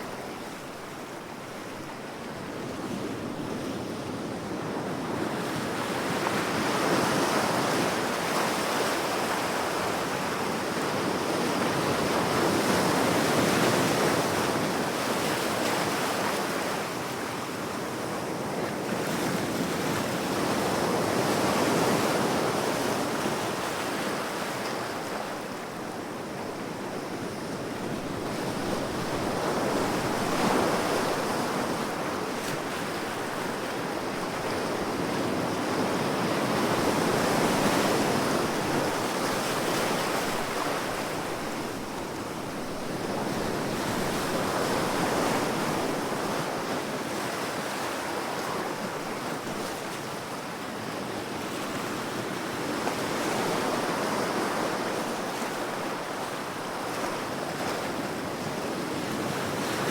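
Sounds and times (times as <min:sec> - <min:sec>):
ocean waves washing ashore: 0:00.0 - 0:59.9
wind: 0:00.0 - 0:59.9.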